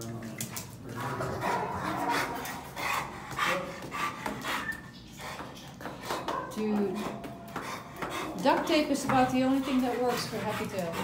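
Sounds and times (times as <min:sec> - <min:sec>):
dog breathing: 0:00.4 - 0:11.0.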